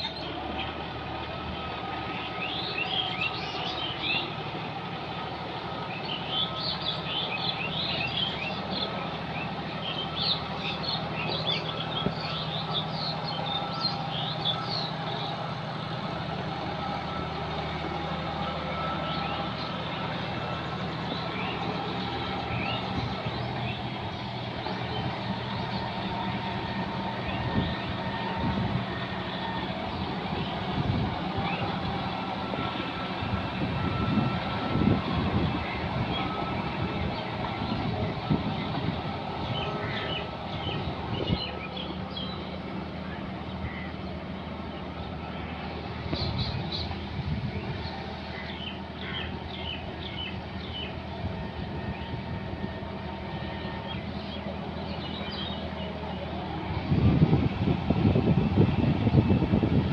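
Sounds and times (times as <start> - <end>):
birds chirping: 0.0 - 59.9
tractor diesel engine rumbling: 0.0 - 59.9.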